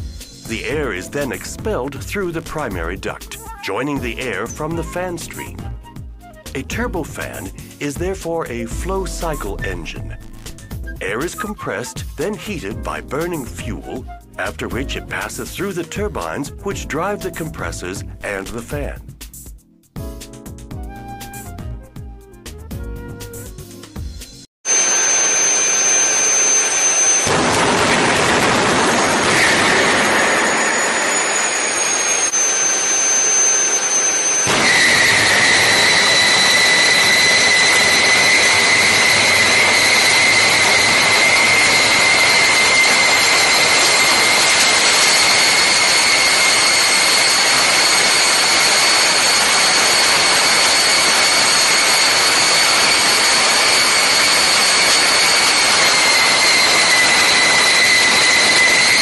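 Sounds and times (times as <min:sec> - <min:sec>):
jet engine roaring and whining: 0:00.4 - 0:16.0, 0:24.7 - 0:59.0.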